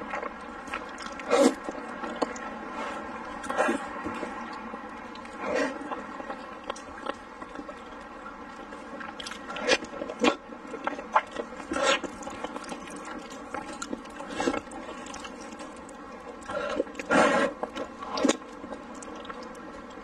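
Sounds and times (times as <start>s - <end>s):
faint hum: 0.0s - 20.0s
slurping: 0.0s - 20.0s
wet biting and chewing: 0.0s - 20.0s.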